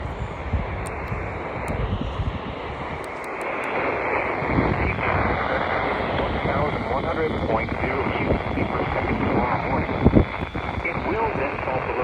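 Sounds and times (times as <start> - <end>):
low rumble: 0.0 - 12.0
radio static hiss: 0.0 - 12.0
weak radio broadcast: 0.0 - 12.0.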